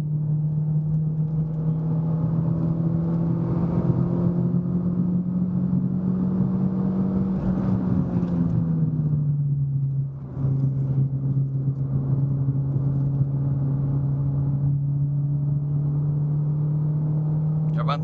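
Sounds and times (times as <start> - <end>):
car engine pulling uphill: 0.0 - 18.0.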